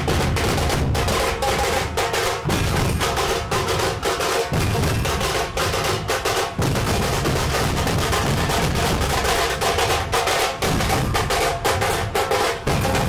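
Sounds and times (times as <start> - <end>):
fast dense drumming: 0.0 - 13.0.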